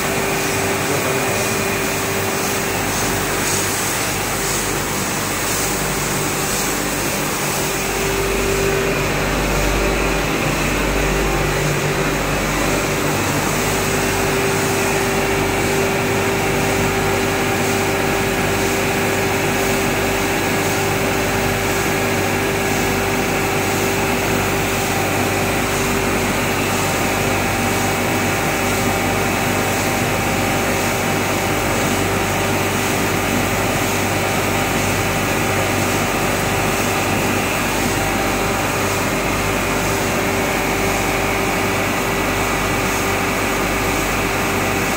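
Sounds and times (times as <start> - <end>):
machine mechanical hum: 0.0 - 44.9
pump and spray hiss: 0.0 - 44.9.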